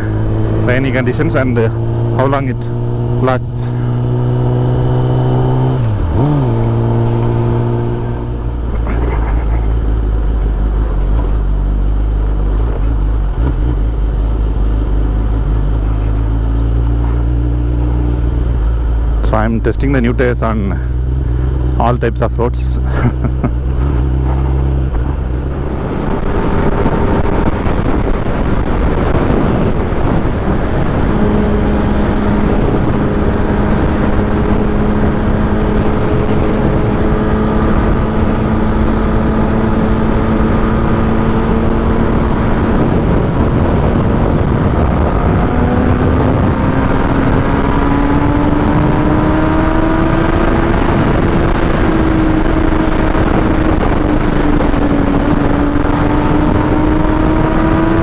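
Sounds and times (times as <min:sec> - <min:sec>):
motorcycle engine accelerating: 0:00.0 - 0:58.0
riding wind noise: 0:00.0 - 0:58.0.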